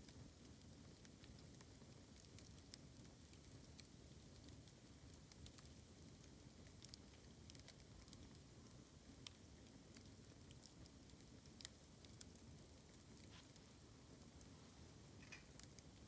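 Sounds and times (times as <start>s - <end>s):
bamboo crackling in campfire: 0.0s - 16.0s.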